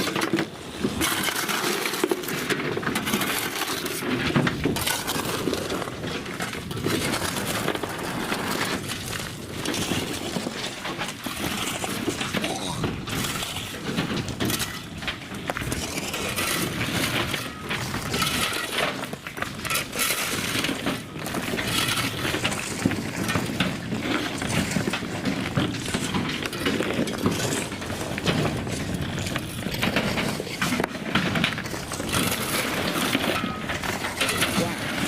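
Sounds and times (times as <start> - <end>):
rocks pouring and clattering: 0.0 - 35.0.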